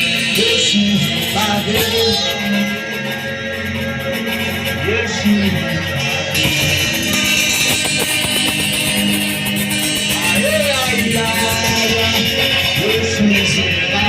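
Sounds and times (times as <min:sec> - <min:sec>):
worship music with guitar: 0:00.0 - 0:14.0.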